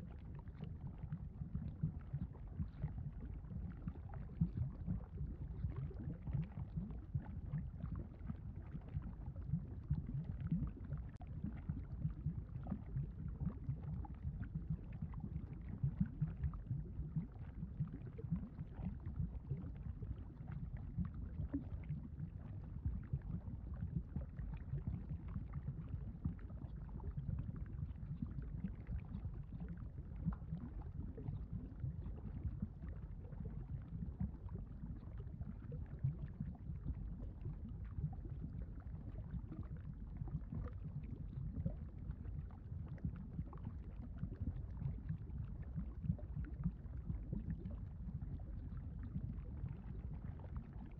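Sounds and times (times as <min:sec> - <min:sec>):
deep rumble of churning lava: 0:00.0 - 0:50.9.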